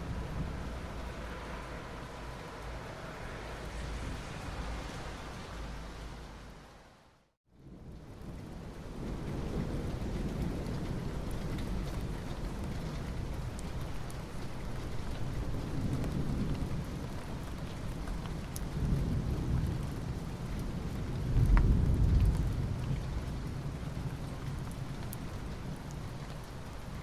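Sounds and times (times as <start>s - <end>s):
rain falling on asphalt: 0.0s - 27.0s.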